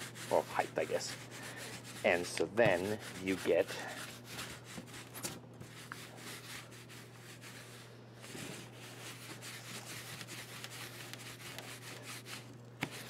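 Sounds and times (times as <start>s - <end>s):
paint roller rubbing on foam: 0.0s - 13.0s
steady low hum: 0.0s - 13.0s.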